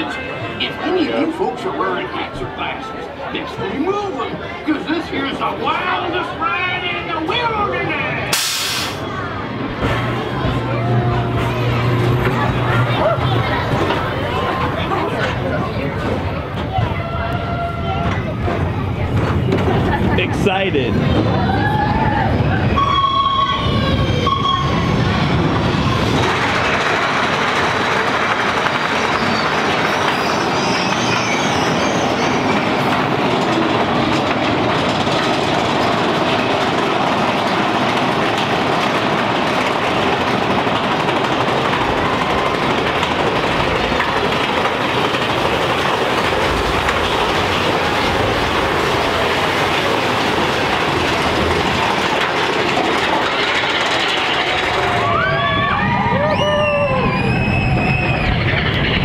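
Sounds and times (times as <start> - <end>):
roller coaster rumbling and clattering: 0.0 - 59.0.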